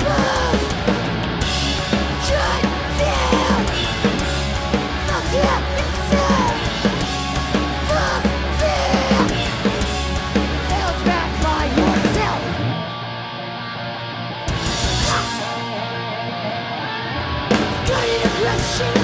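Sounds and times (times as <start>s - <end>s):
punk band playing: 0.0s - 19.0s.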